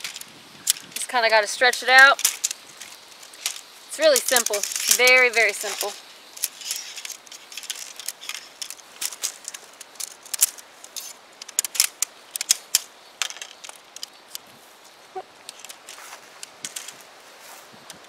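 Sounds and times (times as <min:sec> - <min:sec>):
tent pole sections clicking: 0:00.0 - 0:18.0.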